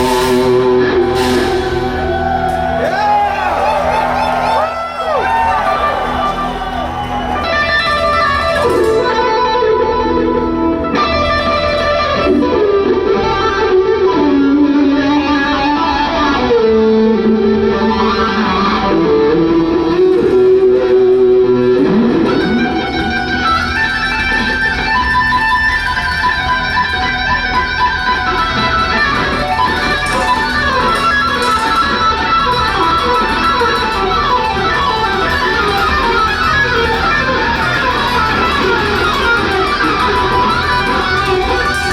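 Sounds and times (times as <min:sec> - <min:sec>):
electric guitar lead: 0:00.0 - 0:41.9
live rock music: 0:00.0 - 0:41.9.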